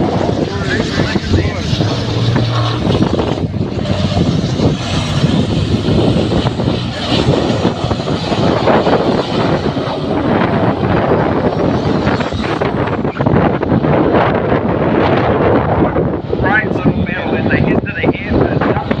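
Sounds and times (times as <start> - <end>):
race truck engines passing: 0.0 - 19.0.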